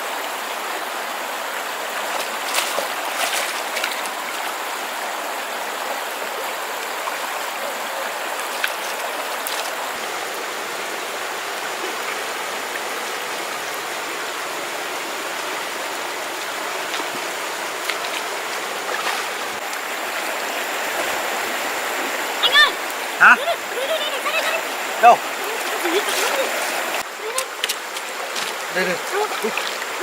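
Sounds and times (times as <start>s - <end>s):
flowing water rushing: 0.0s - 30.0s.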